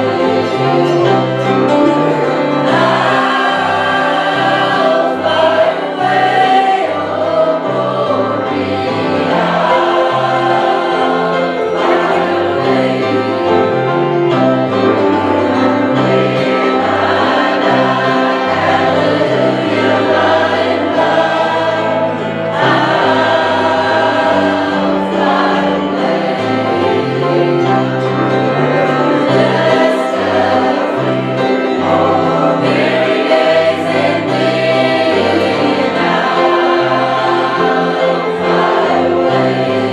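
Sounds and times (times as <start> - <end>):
choir singing gospel: 0.0 - 39.9
instrumental accompaniment: 0.0 - 39.9.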